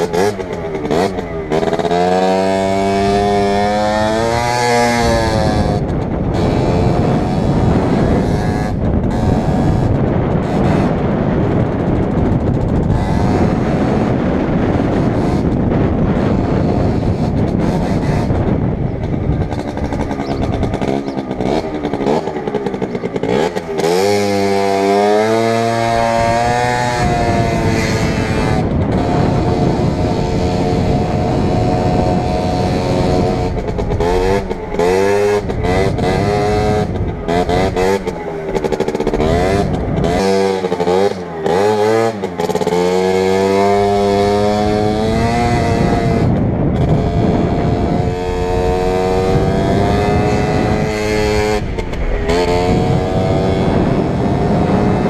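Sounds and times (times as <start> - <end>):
motorcycle engine revving: 0.0 - 55.0
wind rush in helmet: 0.0 - 55.0.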